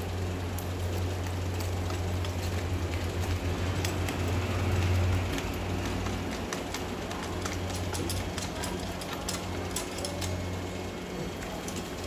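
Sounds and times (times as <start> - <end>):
steady low hum: 0.0 - 12.0
small metal parts clicking: 0.5 - 10.8, 11.4 - 12.0.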